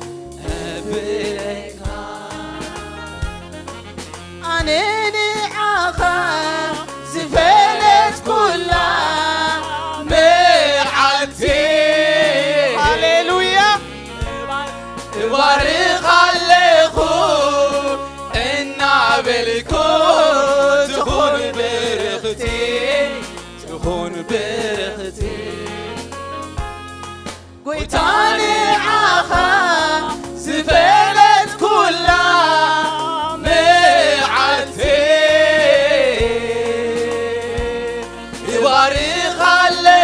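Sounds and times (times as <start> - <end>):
gospel choir singing: 0.0 - 40.0
instrumental accompaniment with beat: 0.0 - 40.0.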